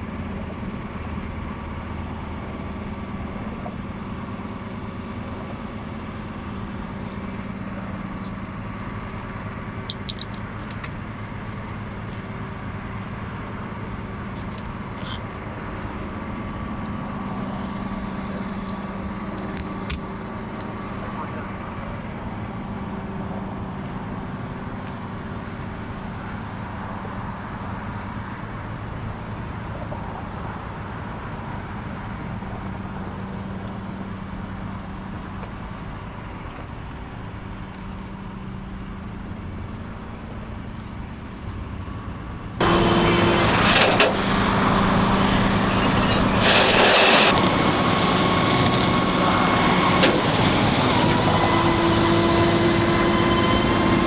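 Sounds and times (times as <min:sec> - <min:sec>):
engines running: 0:00.0 - 0:54.0
vehicles idling: 0:00.0 - 0:54.0.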